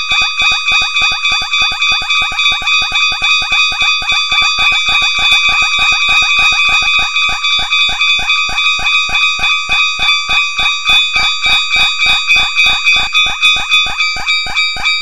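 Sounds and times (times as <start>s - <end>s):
railroad crossing bell ringing: 0.0s - 15.0s.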